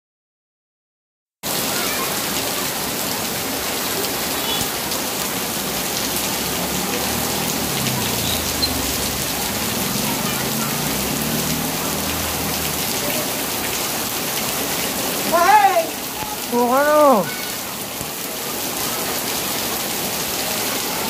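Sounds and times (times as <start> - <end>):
heavy rain pouring: 1.4 - 21.0.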